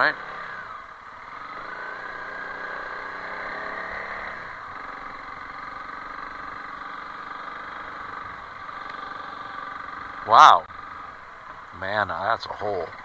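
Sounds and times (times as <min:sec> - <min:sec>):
motorcycle engine running at low speed: 0:00.0 - 0:13.0.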